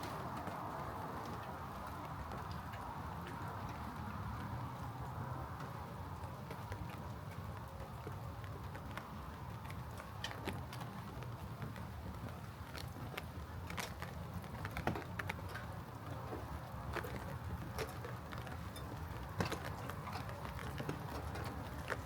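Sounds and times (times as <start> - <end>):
raindrops ticking: 0.0 - 22.0.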